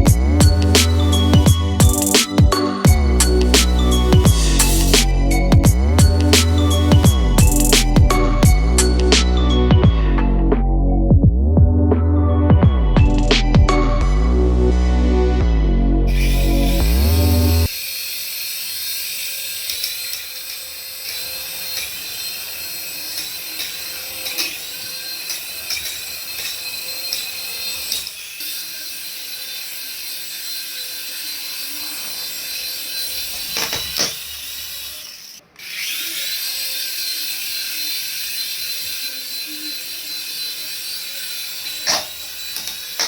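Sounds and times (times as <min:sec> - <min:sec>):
toy motor whining: 0:00.0 - 0:09.7, 0:16.1 - 0:43.0.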